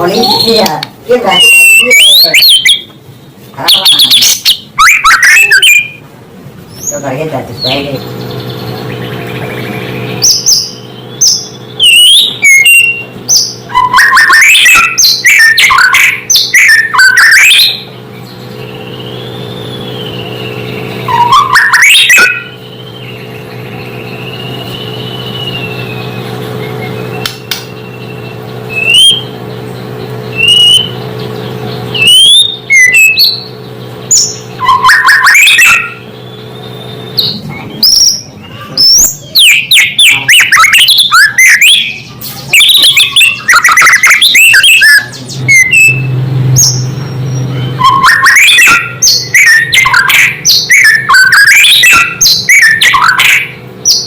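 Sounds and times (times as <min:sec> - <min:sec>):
steady low hum: 0:00.0 - 0:54.0
bird singing whistled phrases: 0:00.1 - 0:02.9, 0:03.6 - 0:06.0, 0:08.7 - 0:17.9, 0:18.6 - 0:29.4, 0:30.0 - 0:31.1, 0:31.8 - 0:54.0.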